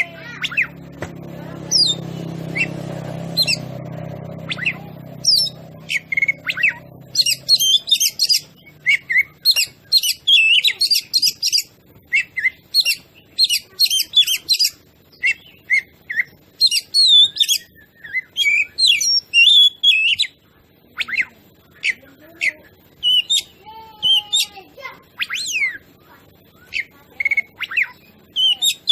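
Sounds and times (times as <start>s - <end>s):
songbird whistling and chattering: 0.0s - 1.0s, 1.6s - 28.9s.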